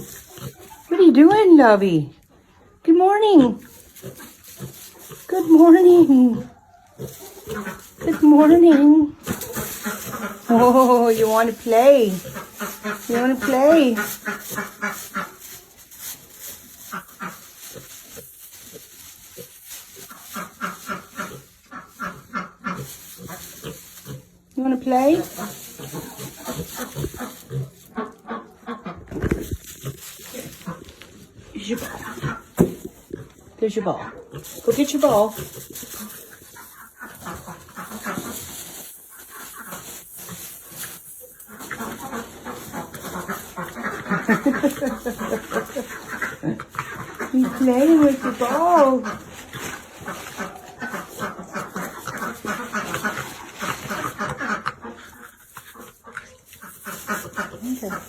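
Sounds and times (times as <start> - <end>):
pig grunting: 3.7 - 58.0.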